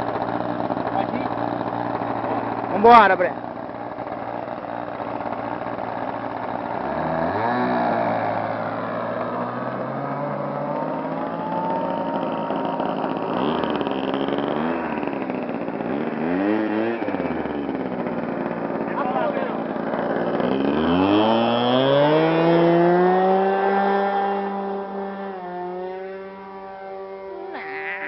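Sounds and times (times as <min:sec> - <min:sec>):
model plane engine buzzing: 0:00.0 - 0:28.0.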